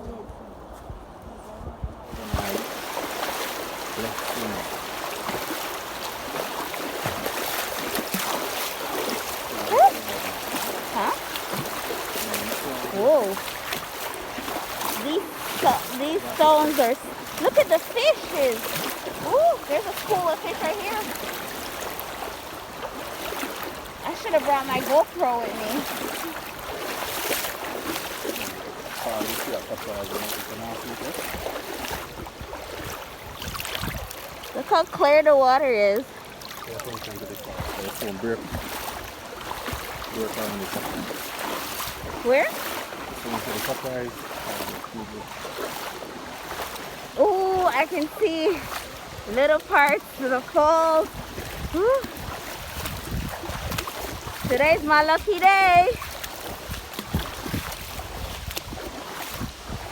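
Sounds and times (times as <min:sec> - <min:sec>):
rushing river water: 0:02.0 - 0:59.9.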